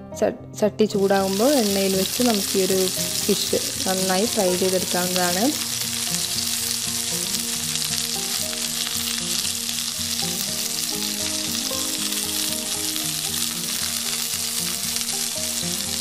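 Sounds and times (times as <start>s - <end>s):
soft background music: 0.0s - 16.0s
fish sizzling in hot oil: 1.0s - 16.0s.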